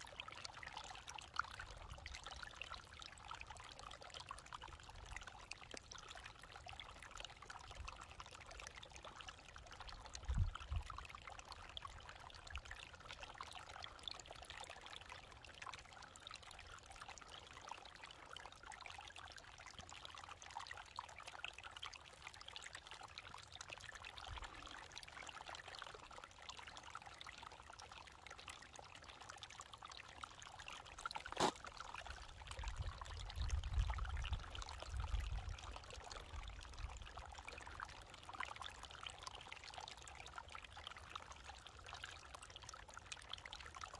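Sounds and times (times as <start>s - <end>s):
water trickling under ice: 0.0s - 43.9s.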